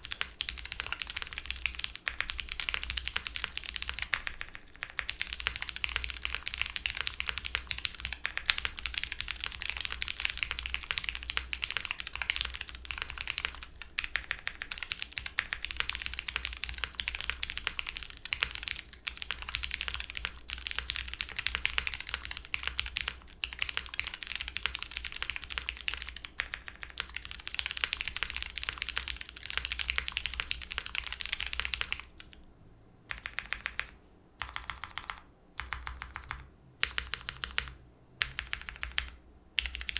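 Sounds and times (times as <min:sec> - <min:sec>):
fast typing on mechanical keyboard: 0:00.0 - 0:32.4, 0:33.1 - 0:39.9.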